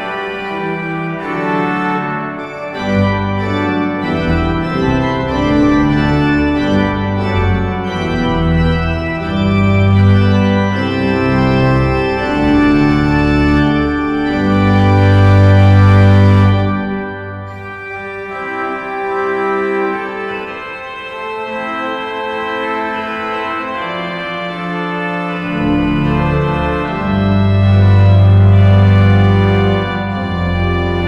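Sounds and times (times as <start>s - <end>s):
deep organ pedal bass: 0.0s - 31.0s
pipe organ playing sustained chords: 0.0s - 31.0s.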